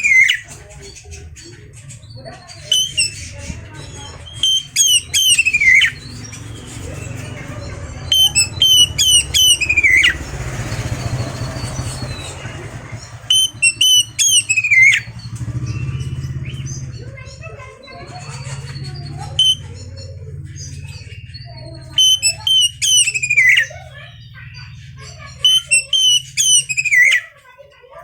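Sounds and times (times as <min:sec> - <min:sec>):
songbird singing: 0:00.0 - 0:27.7.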